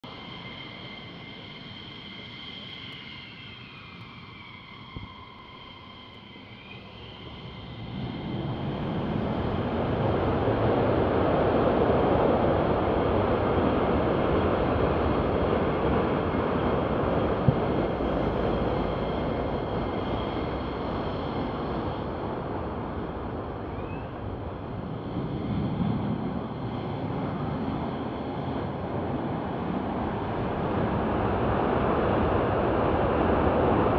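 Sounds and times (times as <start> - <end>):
jet engine whine: 0.0 - 33.9.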